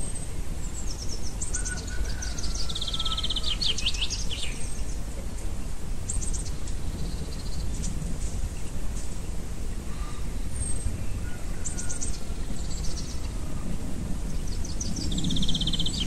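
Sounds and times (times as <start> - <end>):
songbirds trilling and chirping: 0.0 - 16.0.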